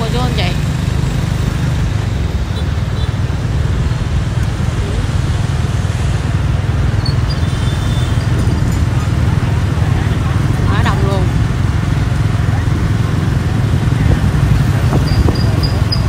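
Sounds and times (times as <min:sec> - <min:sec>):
dense street traffic rumble: 0:00.0 - 0:16.0.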